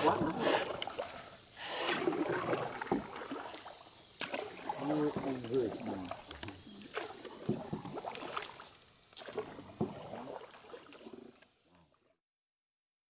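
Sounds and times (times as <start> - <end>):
water splashing around a boat: 0.0 - 12.1.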